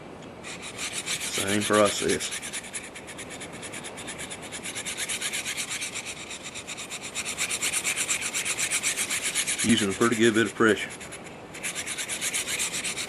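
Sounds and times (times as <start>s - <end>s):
blade grinding on sharpening rod: 0.4s - 13.0s.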